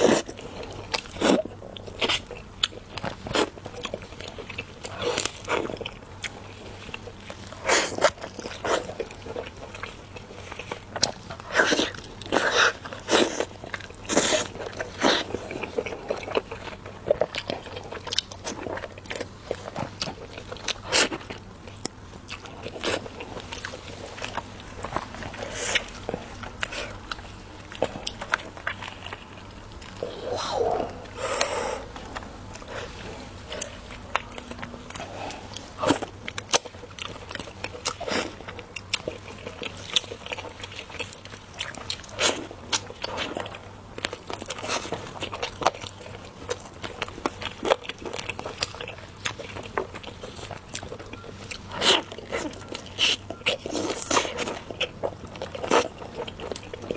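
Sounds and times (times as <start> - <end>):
person biting and chewing: 10.6 - 56.9.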